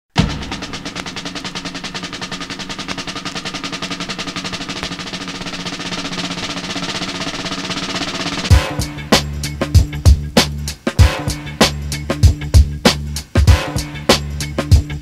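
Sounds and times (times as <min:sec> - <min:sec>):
intro music: 0:00.1 - 0:15.0
snare drum roll: 0:00.1 - 0:15.0.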